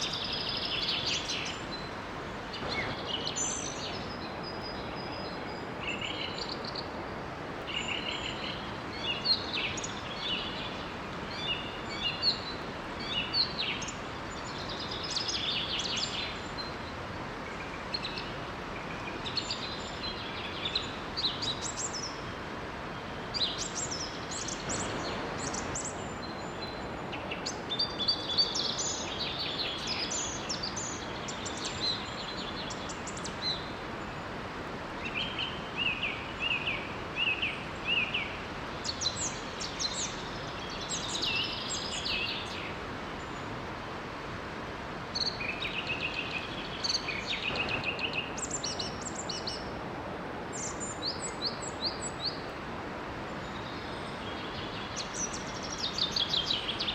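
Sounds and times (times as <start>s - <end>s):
small waterfall rushing: 0.0s - 56.9s
songbirds chirping: 0.0s - 56.9s.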